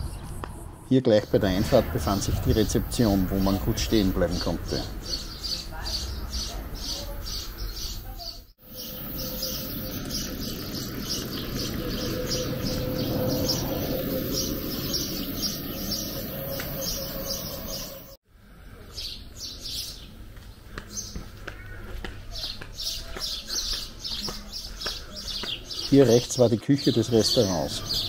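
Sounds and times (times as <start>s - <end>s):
bird chirping: 1.2s - 18.2s, 20.9s - 28.0s.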